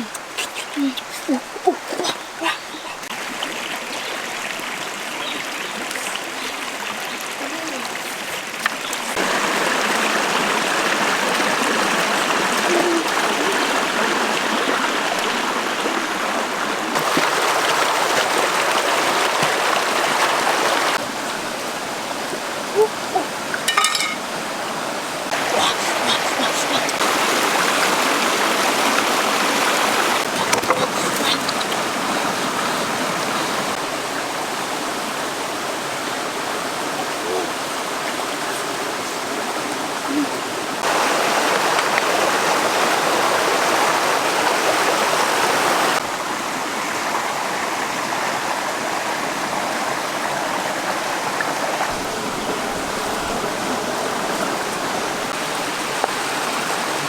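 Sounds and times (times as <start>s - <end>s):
flowing stream rushing: 0.0s - 57.0s.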